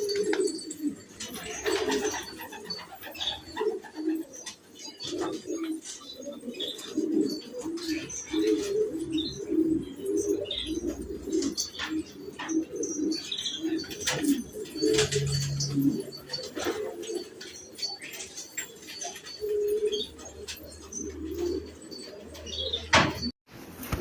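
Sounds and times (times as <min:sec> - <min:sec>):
pigeons cooing: 0:00.0 - 0:23.3.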